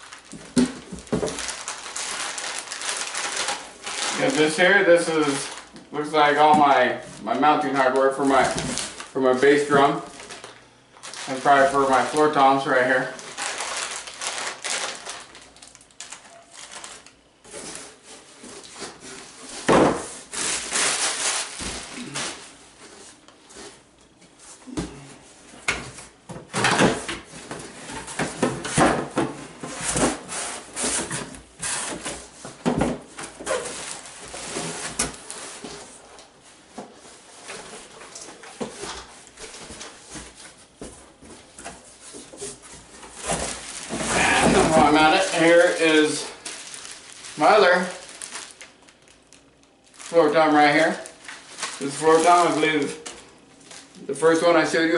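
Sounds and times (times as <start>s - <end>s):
rummaging through cardboard box: 0.0s - 23.9s, 26.6s - 48.6s, 49.9s - 54.0s
plastic bag rustling: 0.0s - 54.9s.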